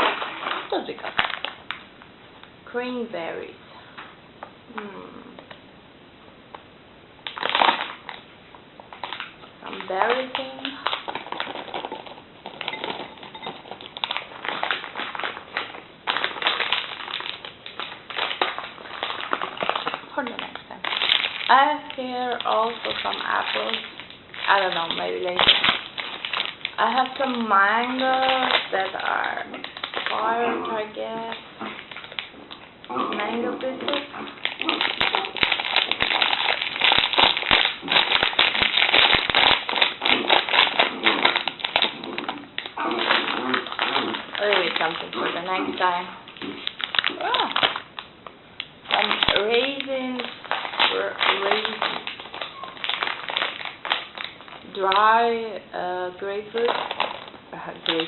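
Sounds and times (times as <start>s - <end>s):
plastic packaging crinkling: 0.0s - 2.6s, 7.2s - 58.0s.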